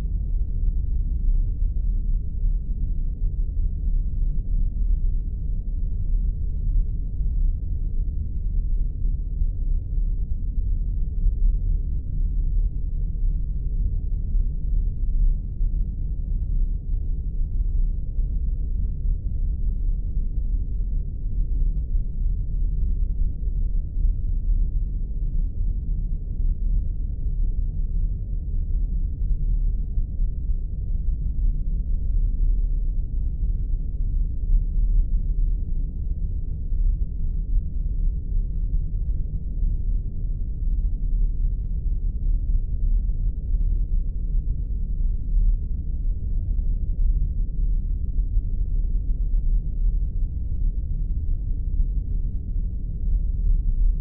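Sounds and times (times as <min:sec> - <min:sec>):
deep rumbling engine drone: 0:00.0 - 0:54.0.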